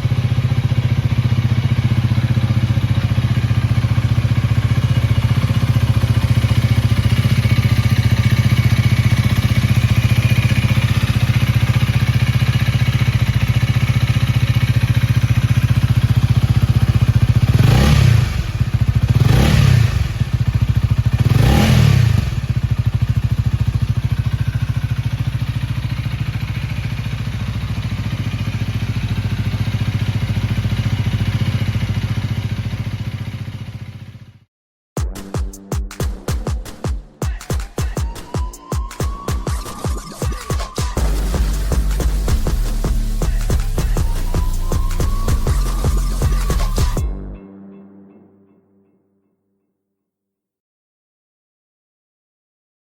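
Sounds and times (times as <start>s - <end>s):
motorcycle engine idling and revving: 0.0s - 38.4s, 39.1s - 47.3s.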